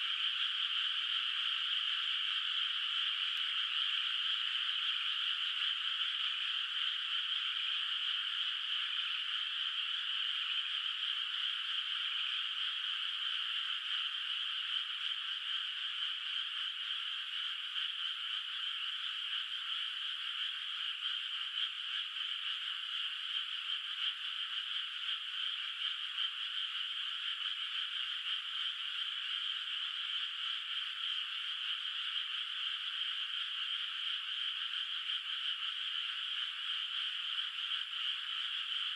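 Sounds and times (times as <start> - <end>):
frogs chorus trilling: 0.0 - 38.9.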